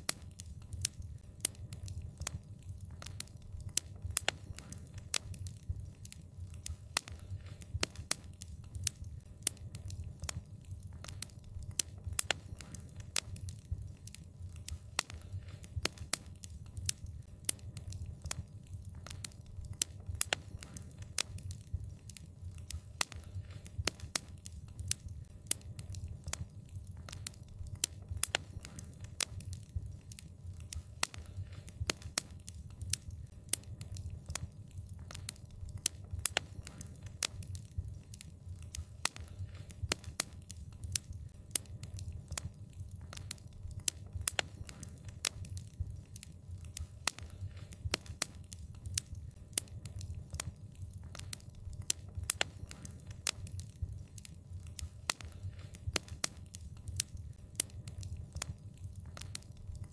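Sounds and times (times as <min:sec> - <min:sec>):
flames low rumble: 0:00.0 - 0:59.9
wood fire pops and snaps: 0:00.0 - 0:59.9.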